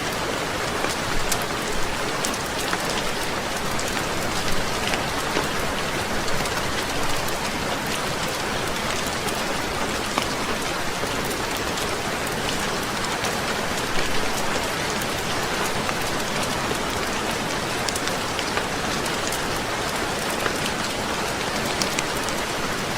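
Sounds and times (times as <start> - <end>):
heavy rain: 0.0 - 22.9.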